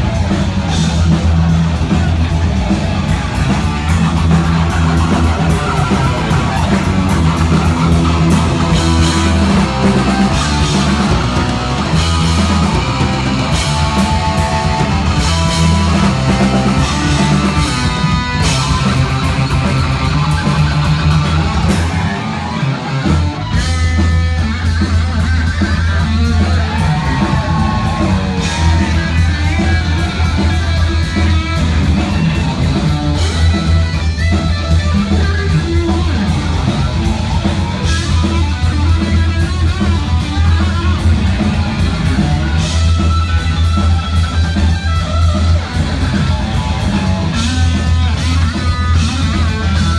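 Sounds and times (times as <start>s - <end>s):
bass guitar: 0.0s - 49.9s
distorted electric guitar: 0.0s - 49.9s
drum kit: 0.0s - 49.9s.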